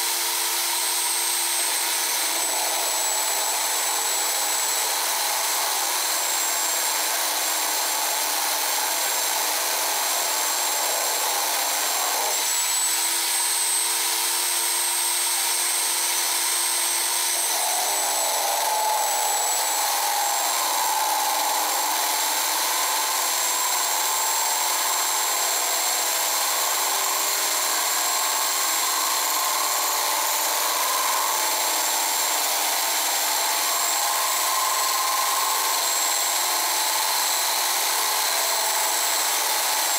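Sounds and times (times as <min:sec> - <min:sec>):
drill press grinding glass: 0:00.6 - 0:39.9.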